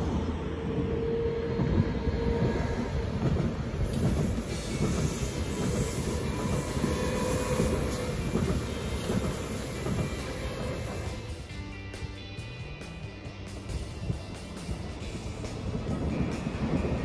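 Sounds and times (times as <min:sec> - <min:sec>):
train wheels rolling on rails: 0:00.0 - 0:11.8, 0:13.6 - 0:17.0.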